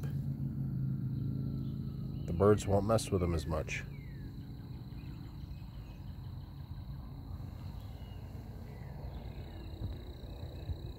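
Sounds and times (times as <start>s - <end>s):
low rumbling noise: 0.0s - 10.9s
faint bird chirps: 1.1s - 10.9s.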